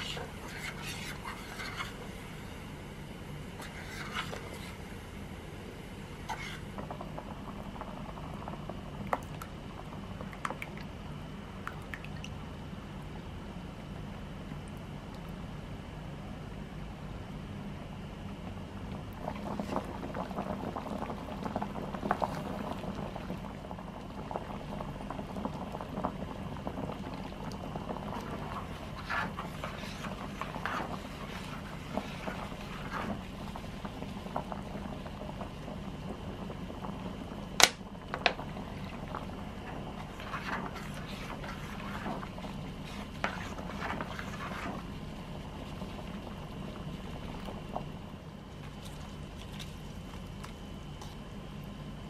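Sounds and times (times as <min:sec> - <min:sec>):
sauce boiling and bubbling: 0:00.0 - 0:17.1, 0:17.7 - 0:52.0.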